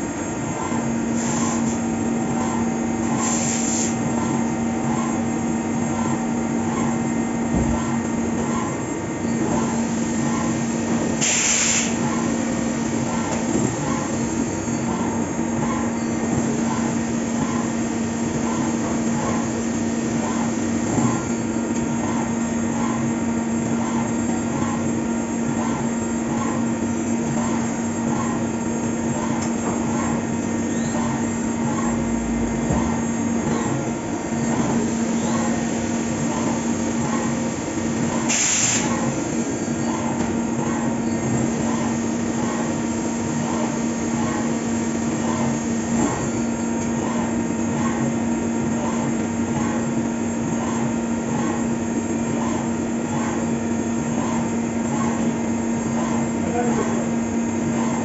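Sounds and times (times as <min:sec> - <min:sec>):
cnc machine humming: 0:00.0 - 0:03.3, 0:03.9 - 0:11.2, 0:11.8 - 0:58.0.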